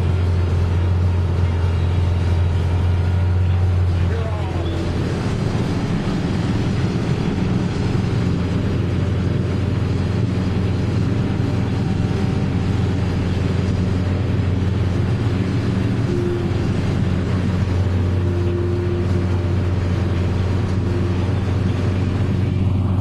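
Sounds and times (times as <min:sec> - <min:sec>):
tractor engine drone: 0:00.0 - 0:23.0.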